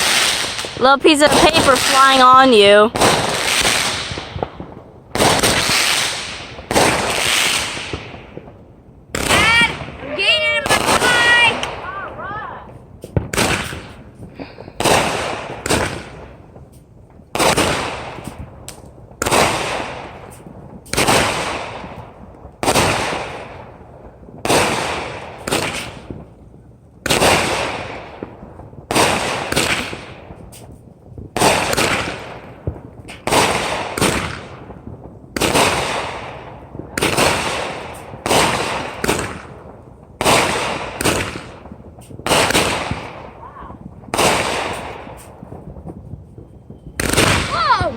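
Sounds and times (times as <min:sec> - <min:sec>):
firework cake bangs: 0:00.0 - 0:23.8, 0:24.4 - 0:26.4, 0:27.0 - 0:47.9.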